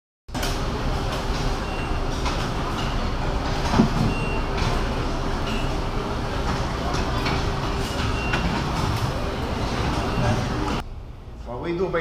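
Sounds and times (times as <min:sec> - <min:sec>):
machine hum and hubbub: 0:00.3 - 0:12.0.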